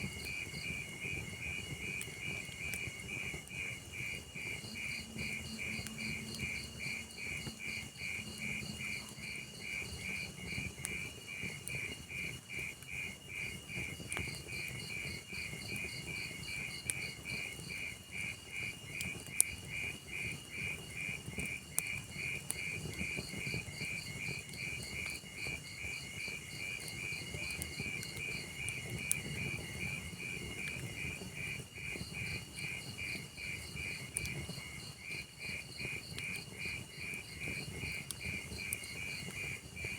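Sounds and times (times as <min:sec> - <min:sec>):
burning logs crackling: 0:00.0 - 0:39.9
cricket chirping: 0:00.0 - 0:39.9.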